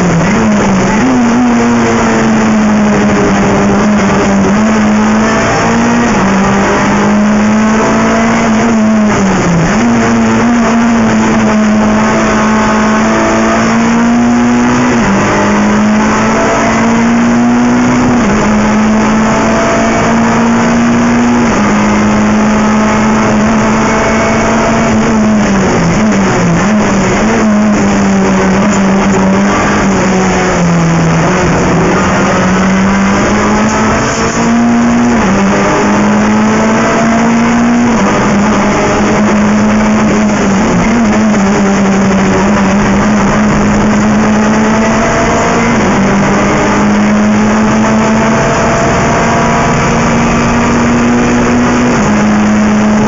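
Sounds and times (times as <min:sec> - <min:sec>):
race car engine from cockpit: 0:00.0 - 0:53.0
wind and road noise: 0:00.0 - 0:53.0.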